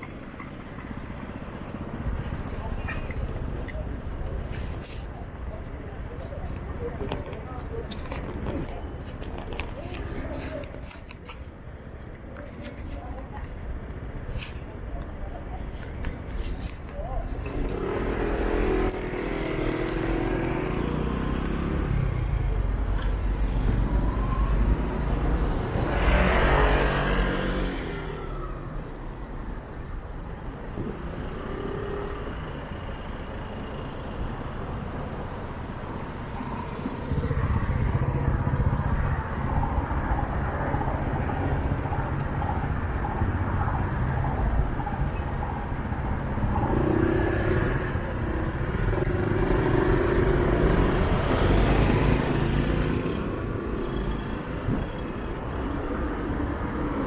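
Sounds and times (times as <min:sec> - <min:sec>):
car and bus engines passing: 0:00.0 - 0:57.0.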